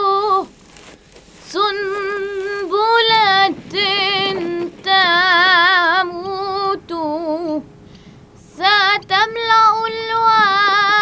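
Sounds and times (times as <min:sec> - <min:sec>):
woman singing: 0:01.4 - 0:07.7, 0:08.4 - 0:11.0.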